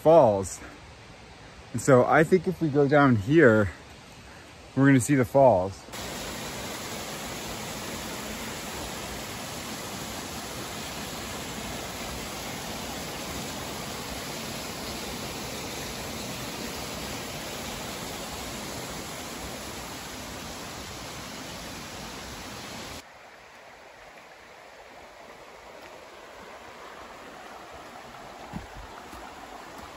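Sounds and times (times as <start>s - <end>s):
waterfall splashing over rocks: 5.9s - 29.9s.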